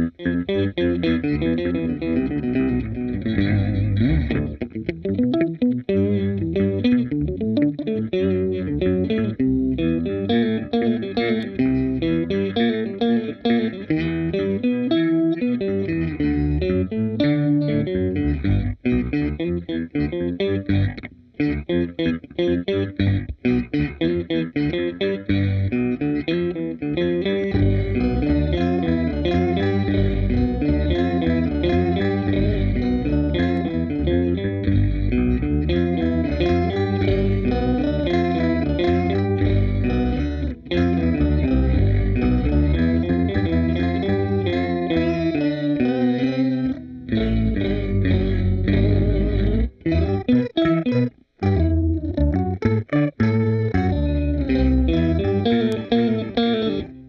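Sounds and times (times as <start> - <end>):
electric guitar fast picked notes: 0.0 - 57.0.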